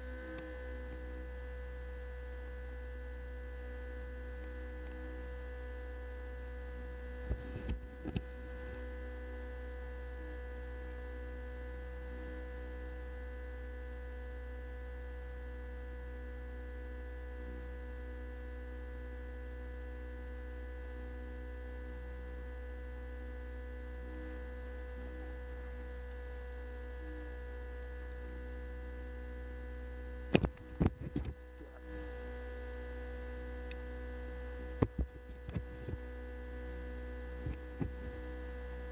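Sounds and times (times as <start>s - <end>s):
steady electrical hum: 0.0s - 38.9s.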